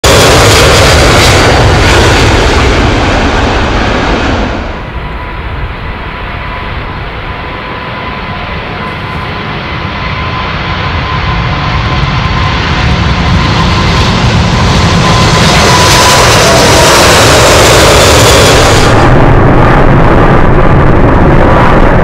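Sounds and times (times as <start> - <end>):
distant jet rumble: 0.0 - 22.0
jet engines roaring: 0.0 - 22.0.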